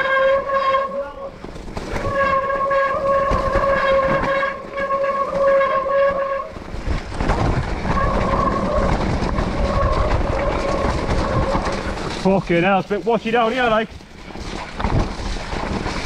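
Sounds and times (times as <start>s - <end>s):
rumbling tyre and trail noise: 0.0s - 16.0s.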